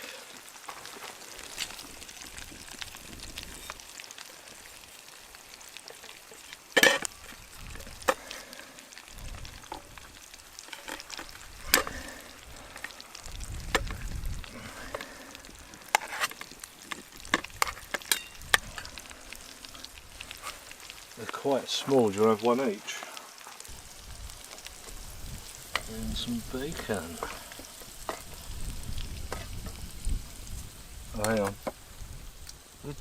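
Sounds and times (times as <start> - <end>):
eggs sizzling in a pan: 0.0 - 33.0.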